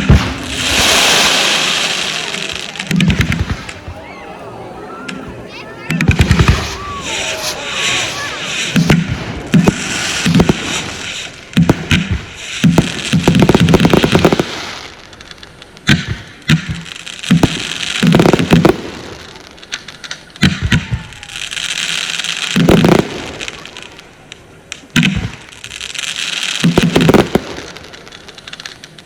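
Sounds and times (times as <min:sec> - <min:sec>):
fireworks bangs: 0:00.0 - 0:29.0
fireworks crackling hiss: 0:00.0 - 0:29.0.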